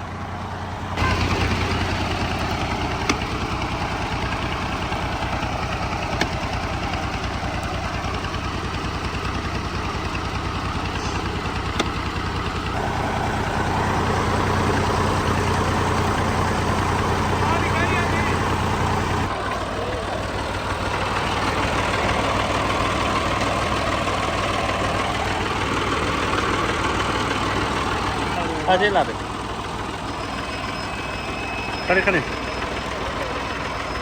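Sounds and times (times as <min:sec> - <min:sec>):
diesel engine rumbling under load: 0:00.0 - 0:34.0.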